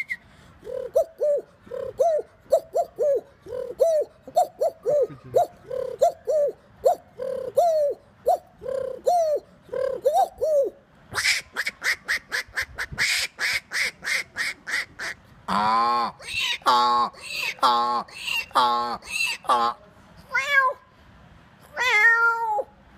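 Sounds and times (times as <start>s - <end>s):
man making drawn-out call: 0.0s - 13.2s, 13.8s - 19.9s
man imitating bird calls: 0.0s - 19.8s.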